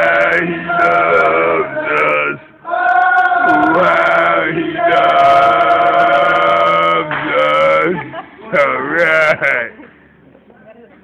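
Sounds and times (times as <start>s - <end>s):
voices singing worship song: 0.0s - 9.2s.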